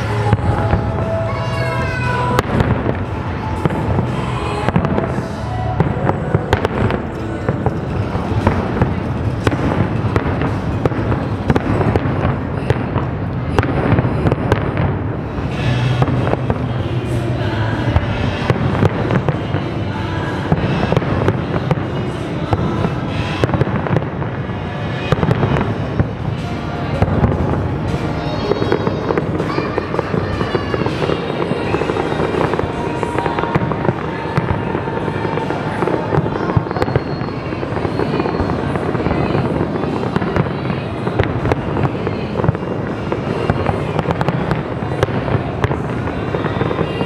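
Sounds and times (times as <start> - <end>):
fireworks bangs and crackles: 0.0 - 47.0
music: 0.0 - 47.0
voices: 0.0 - 47.0.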